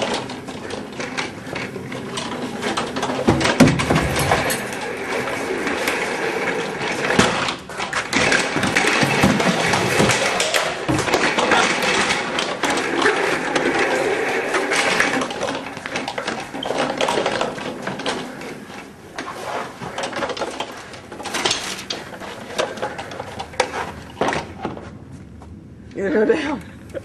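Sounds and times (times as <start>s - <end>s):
chair casters rattling: 0.0s - 25.1s.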